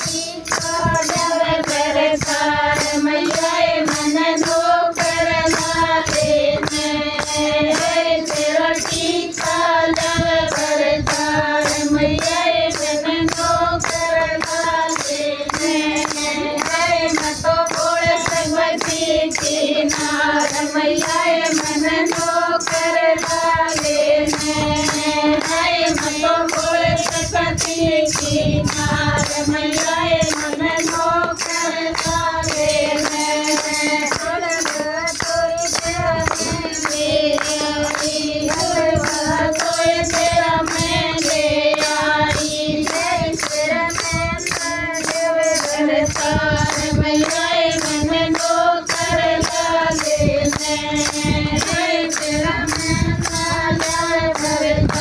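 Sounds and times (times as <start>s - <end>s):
jingle tambourines beat: 0.0s - 55.0s
women singing in chorus: 0.0s - 55.0s.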